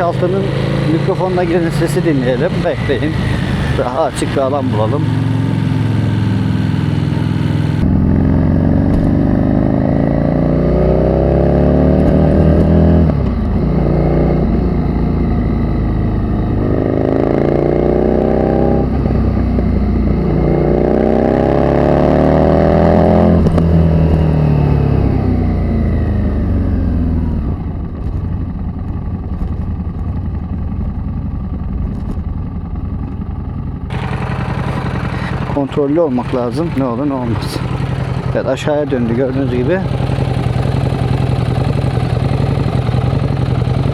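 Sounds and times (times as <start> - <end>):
car engine accelerating: 0.0 - 28.2, 33.9 - 43.9.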